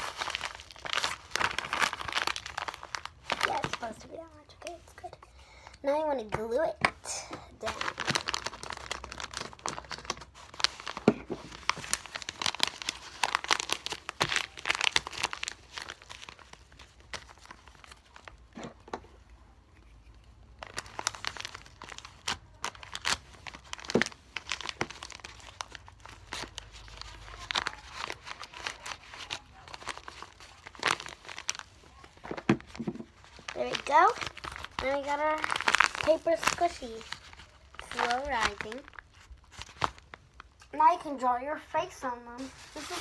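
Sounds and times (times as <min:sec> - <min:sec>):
paper and plastic crinkling: 0:00.0 - 0:19.2, 0:19.8 - 0:43.0.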